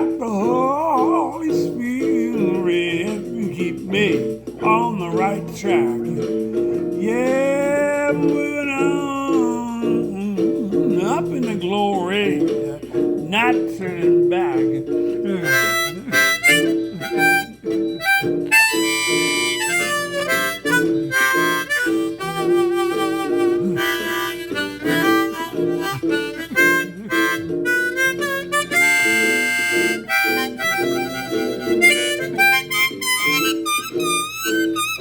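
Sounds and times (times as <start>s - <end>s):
harmonica playing: 0.0s - 35.0s
rhythmic guitar accompaniment: 0.0s - 35.0s.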